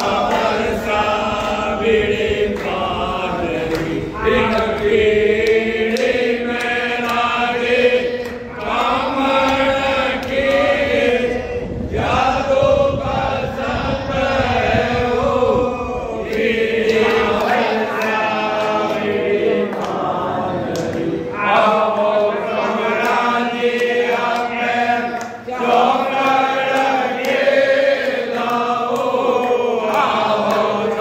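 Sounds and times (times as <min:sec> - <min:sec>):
group chanting a hymn: 0:00.0 - 0:31.0.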